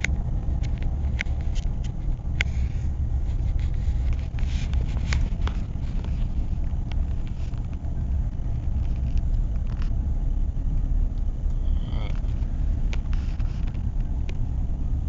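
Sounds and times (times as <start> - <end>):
car tyres and engine rumble: 0.0 - 15.0.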